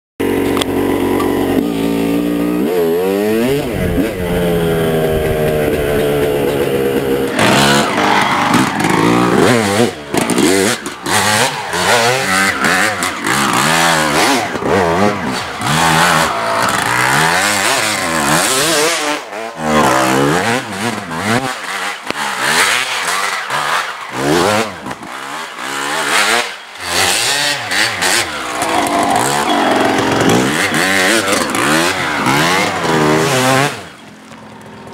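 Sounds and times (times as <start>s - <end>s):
dirt bike engine revving: 0.2s - 34.2s.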